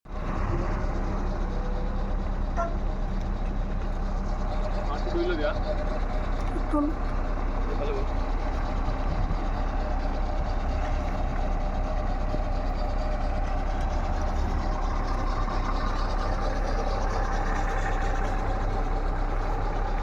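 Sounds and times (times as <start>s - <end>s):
excavator engine running: 0.1s - 20.0s.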